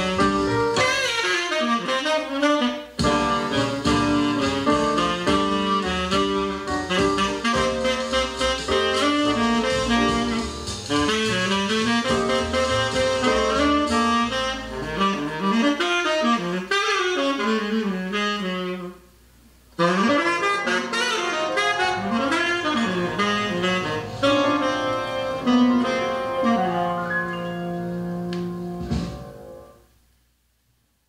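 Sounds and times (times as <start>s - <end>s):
jazz with saxophone lead: 0.0s - 29.9s.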